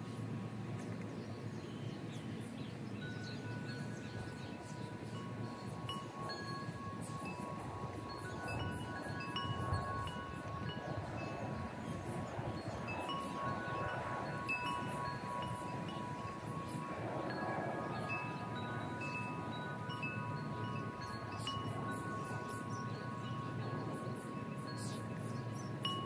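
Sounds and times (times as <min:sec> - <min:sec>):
low rush of wind: 0:00.0 - 0:26.0
wind chimes ringing: 0:03.0 - 0:26.0.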